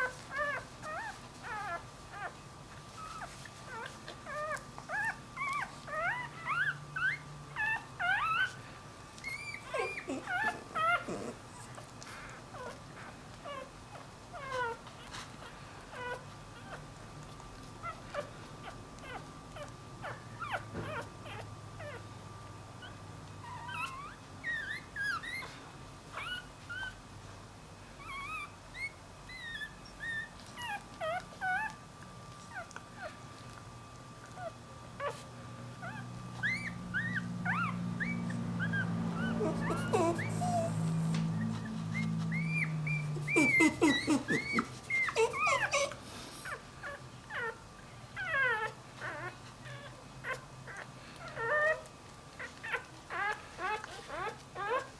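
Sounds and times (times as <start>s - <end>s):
puppy whining: 0.0s - 27.1s, 28.0s - 54.9s.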